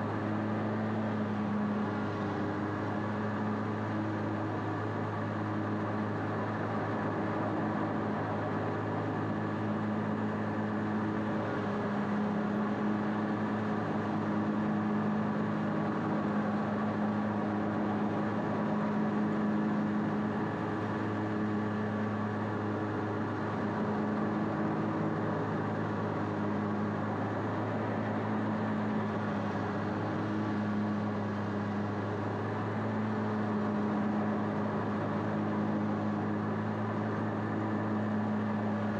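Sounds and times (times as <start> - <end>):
riding mower engine droning: 0.0 - 38.9.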